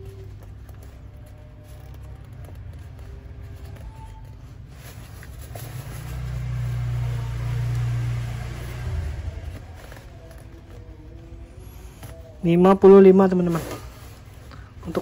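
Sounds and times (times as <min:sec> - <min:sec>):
nylon fabric rustling: 0:00.0 - 0:15.0.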